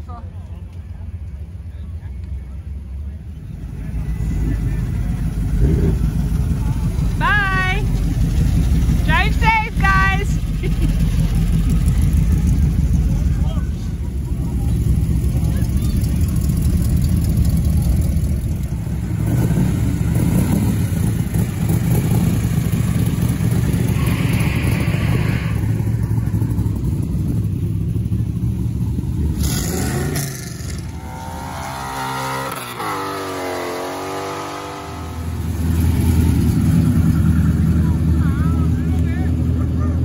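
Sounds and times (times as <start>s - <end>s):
car engine rumbling close by: 0.0s - 40.0s
engine rumbling past: 0.0s - 40.0s.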